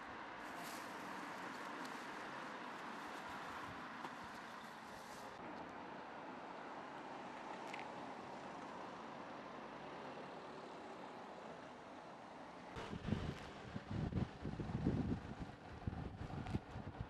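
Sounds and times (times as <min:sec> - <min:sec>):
faint street traffic hum: 0:00.0 - 0:17.0.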